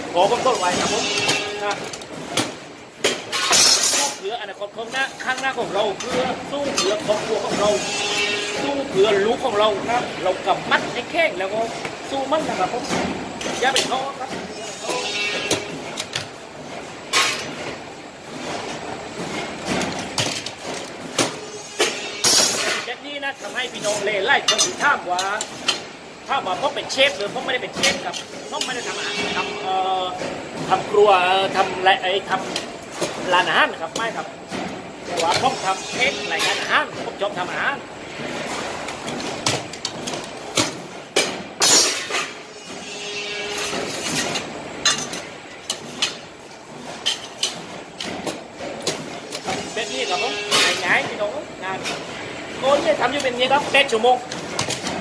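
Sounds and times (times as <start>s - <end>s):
factory background noise: 0.0s - 55.0s.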